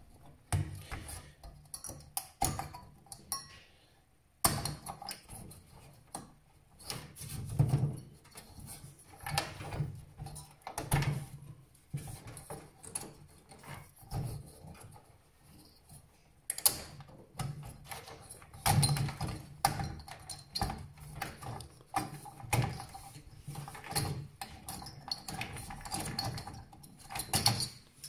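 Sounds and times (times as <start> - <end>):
hands clicking and scraping on computer parts: 4.4 - 28.0.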